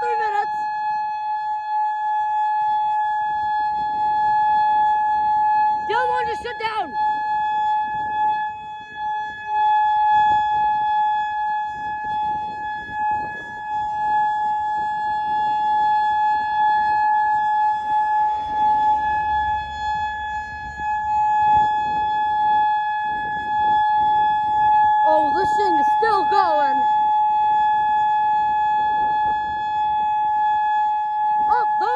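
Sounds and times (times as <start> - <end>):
warning siren steady tone: 0.0 - 31.9.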